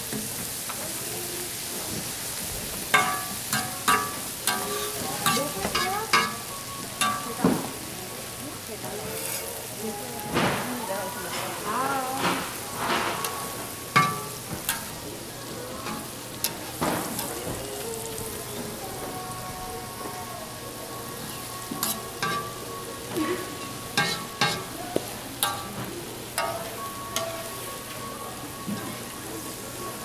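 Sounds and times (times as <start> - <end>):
cooking utensils clicking and scraping: 0.0 - 30.0
food sizzling on a griddle: 0.0 - 30.0.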